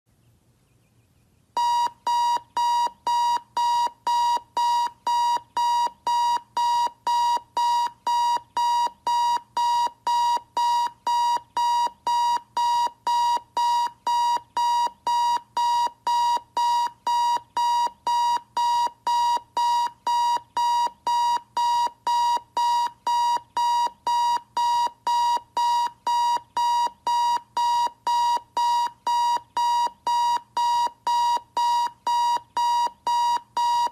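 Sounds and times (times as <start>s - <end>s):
electronic alarm clock beeping: 1.6s - 33.9s.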